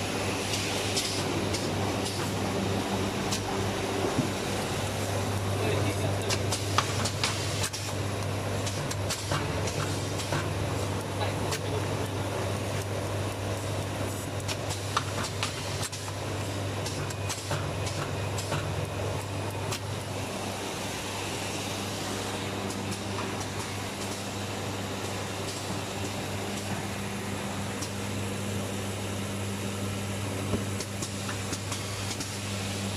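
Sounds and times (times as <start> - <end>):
machine humming: 0.0 - 32.9.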